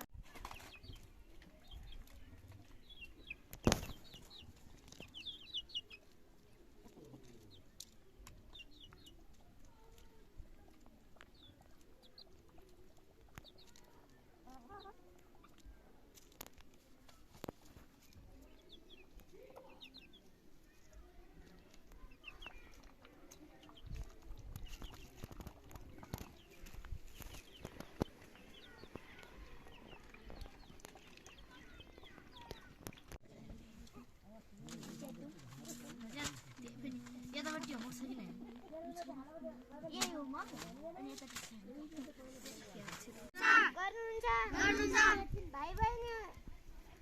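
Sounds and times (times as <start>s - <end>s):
chickens clucking: 0.3s - 39.9s.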